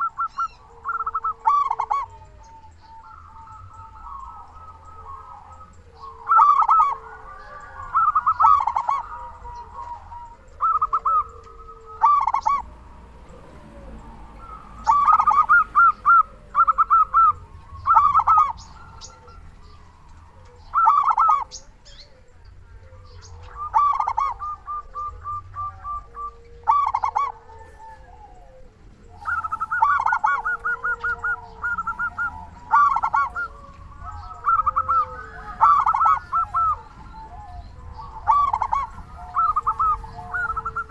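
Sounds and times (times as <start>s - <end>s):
dove cooing: 0.0s - 40.9s
softer lower bird calls: 0.0s - 40.9s.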